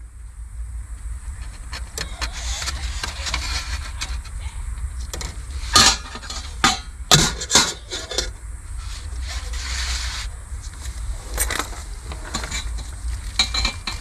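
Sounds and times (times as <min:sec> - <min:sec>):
steady low rumble: 0:00.0 - 0:14.0
handling noises: 0:00.3 - 0:14.0.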